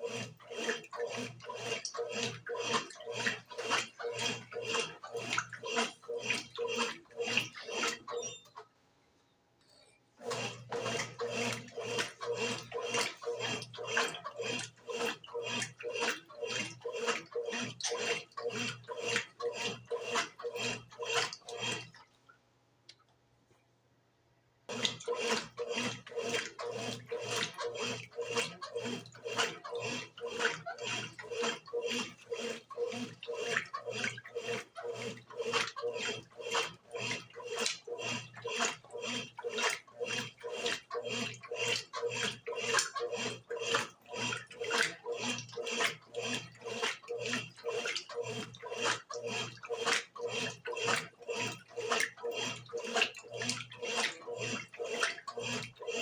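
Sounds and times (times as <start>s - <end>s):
washing machine motor hum: 0.0s - 8.6s, 10.1s - 22.0s, 24.7s - 56.0s
water sloshing: 0.0s - 8.7s, 10.2s - 22.4s, 24.7s - 56.0s.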